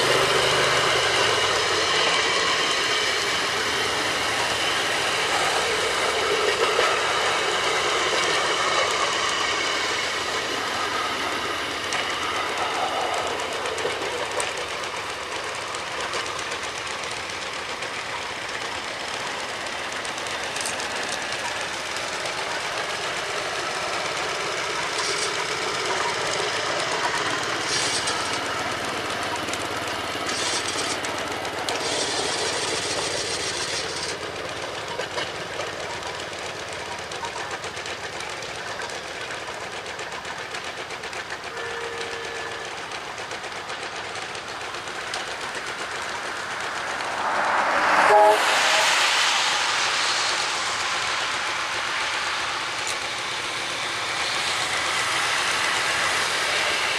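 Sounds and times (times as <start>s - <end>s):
small rail cars running on track: 0.0s - 56.9s.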